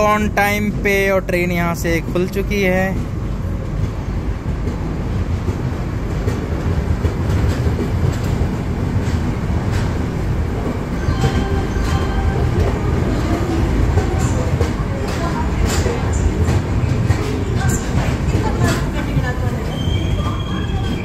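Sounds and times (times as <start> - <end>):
train coaches rumbling: 0.0 - 21.0.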